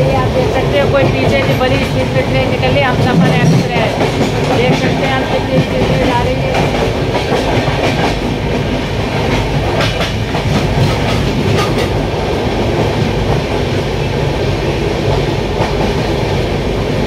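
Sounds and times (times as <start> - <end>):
express train rushing past: 0.0 - 17.0
train rumble and wheel clatter: 0.0 - 17.0.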